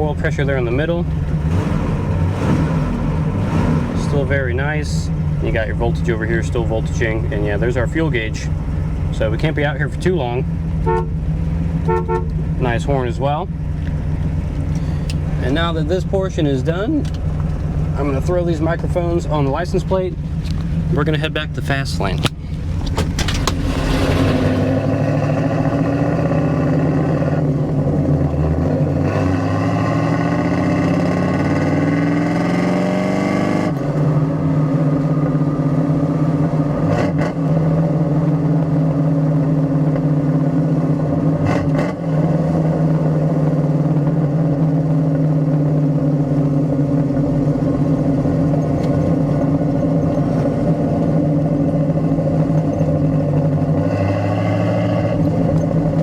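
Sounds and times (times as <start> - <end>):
car exhaust accelerating: 0.0 - 56.0.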